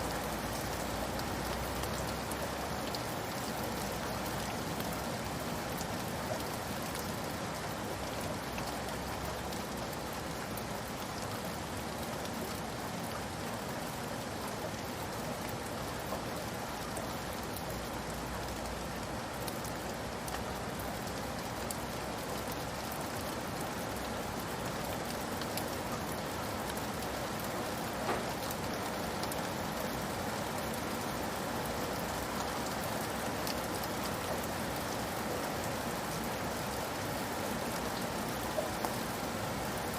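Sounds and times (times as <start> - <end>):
rain pattering on a roof: 0.0 - 39.9.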